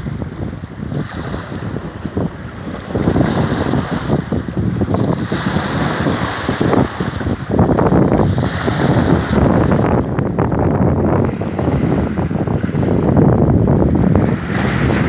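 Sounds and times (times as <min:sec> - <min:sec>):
waves crashing on shore: 0:00.0 - 0:15.0
wind buffeting microphone: 0:00.0 - 0:15.0.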